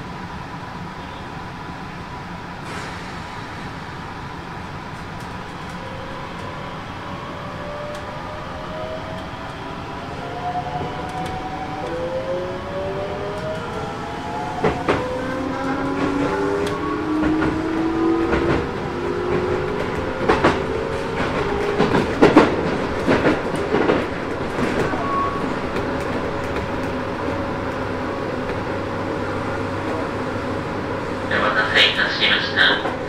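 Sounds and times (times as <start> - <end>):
train hum and rumble: 0.0 - 33.0
train inverter whine: 0.0 - 33.0.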